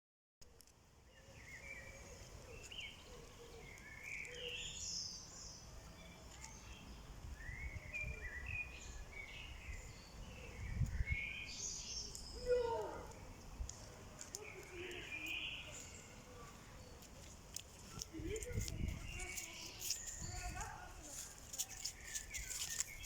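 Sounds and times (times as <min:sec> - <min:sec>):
songbirds singing: 0:00.4 - 0:23.0.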